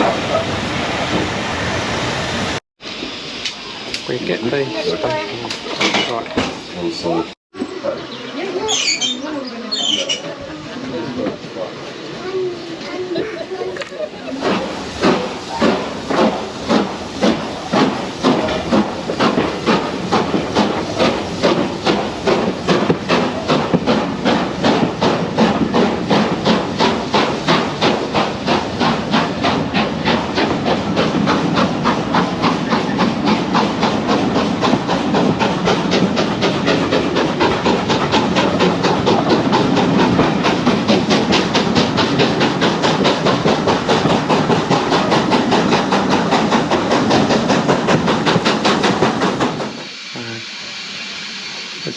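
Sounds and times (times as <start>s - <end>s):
steam locomotive chuffing: 0.0s - 51.9s.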